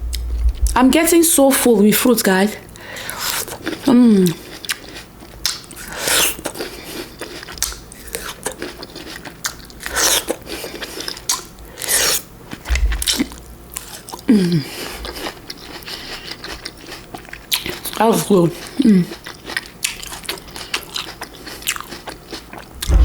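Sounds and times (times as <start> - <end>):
chewing and biting fruit: 3.0 - 23.0.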